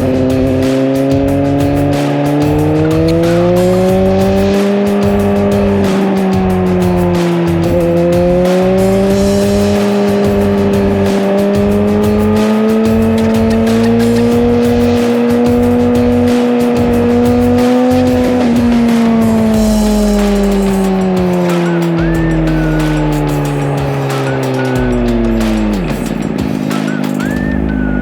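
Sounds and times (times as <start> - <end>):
motorcycle engine and exhaust: 0.0 - 28.0.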